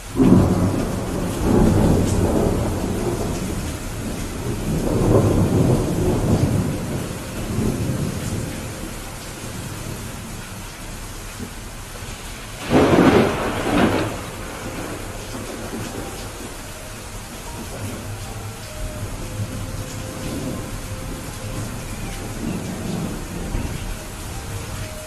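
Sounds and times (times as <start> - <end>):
steady rain: 0.0 - 25.0
rumble of thunder: 0.1 - 25.0.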